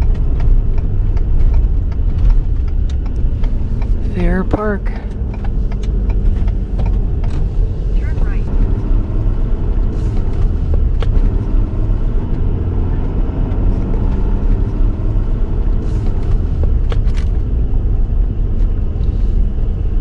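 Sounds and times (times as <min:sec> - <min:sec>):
truck engine and tyres rumbling: 0:00.0 - 0:20.0.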